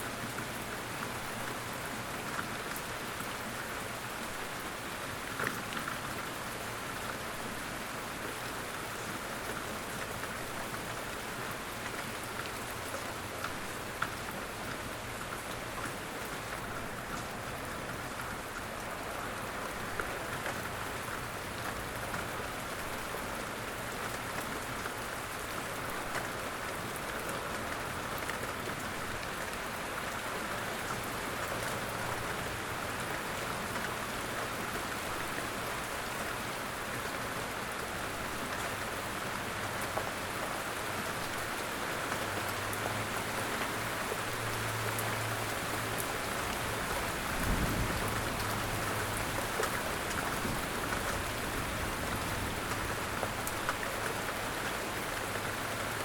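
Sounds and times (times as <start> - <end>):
light rain falling: 0.0 - 56.0
sharp raindrops: 0.0 - 56.0.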